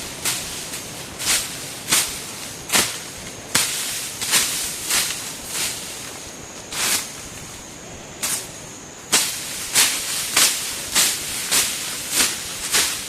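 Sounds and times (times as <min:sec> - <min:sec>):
broom sweeping ground: 0:00.0 - 0:13.0.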